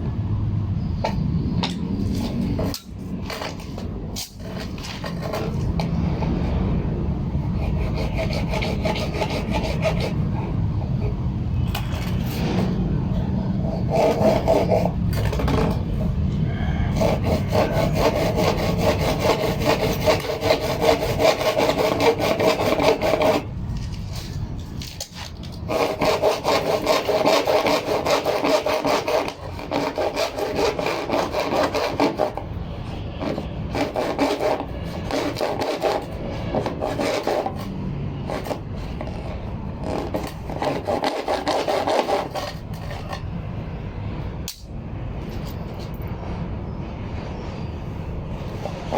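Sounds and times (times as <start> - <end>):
hand saw cutting: 1.6 - 6.6, 7.4 - 43.3.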